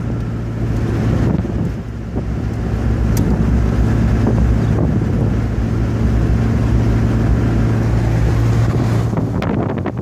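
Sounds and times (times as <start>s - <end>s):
low engine drone: 0.0s - 10.0s
road and wind noise: 0.0s - 10.0s.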